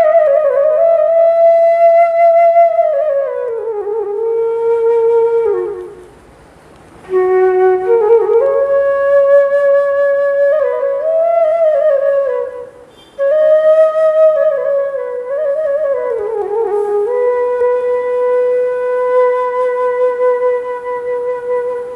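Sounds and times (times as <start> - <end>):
bamboo flute melody: 0.0 - 6.2, 7.0 - 21.9.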